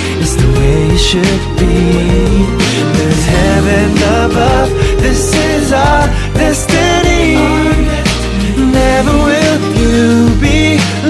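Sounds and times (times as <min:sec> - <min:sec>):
pop song with beat and bass: 0:00.0 - 0:11.0.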